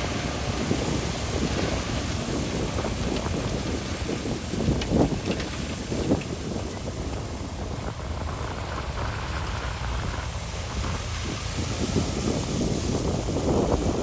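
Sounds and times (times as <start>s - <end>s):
gravel crackling: 0.0s - 14.0s
heavy machinery engine rumble: 0.0s - 14.0s.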